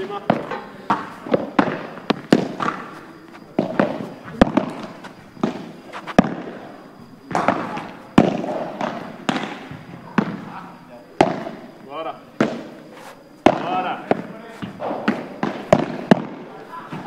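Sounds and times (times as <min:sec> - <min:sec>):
balls bouncing on court: 0:00.0 - 0:06.7, 0:07.3 - 0:10.6, 0:11.2 - 0:11.7, 0:12.4 - 0:12.8, 0:13.4 - 0:17.0
padel balls struck by rackets: 0:00.0 - 0:06.7, 0:07.3 - 0:10.6, 0:11.2 - 0:11.7, 0:12.4 - 0:17.0.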